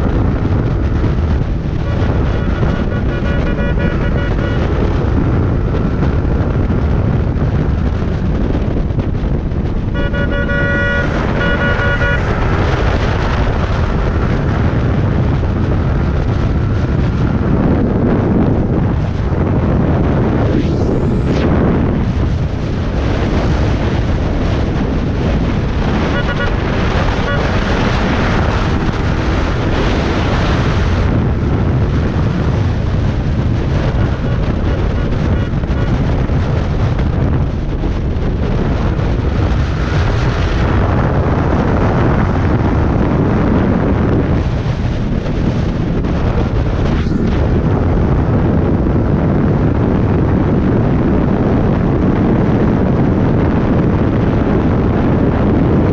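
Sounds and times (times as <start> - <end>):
motorcycle engine running: 0.0 - 20.5, 21.6 - 50.3
wind buffeting microphone: 0.0 - 55.9.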